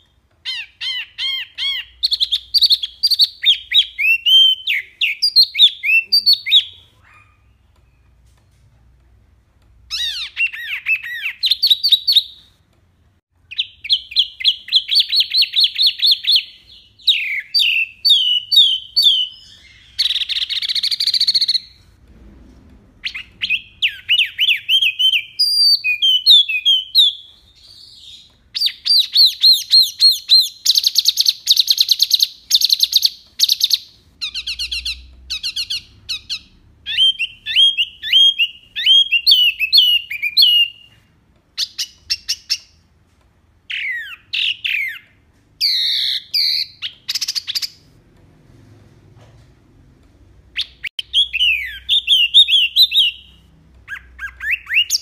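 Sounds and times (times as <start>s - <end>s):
bird singing: 0.0s - 8.2s, 9.9s - 12.5s, 13.4s - 21.8s, 23.0s - 42.8s, 43.7s - 47.8s, 50.6s - 55.0s.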